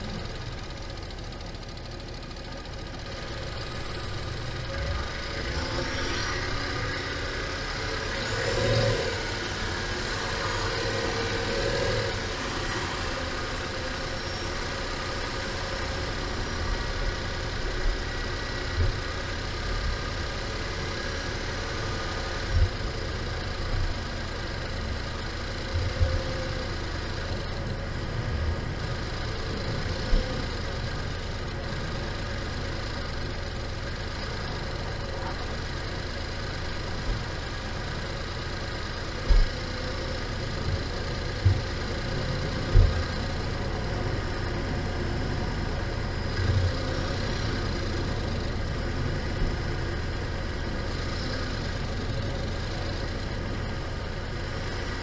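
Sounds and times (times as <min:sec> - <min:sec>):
car engine and tyres humming: 0:00.0 - 0:55.0.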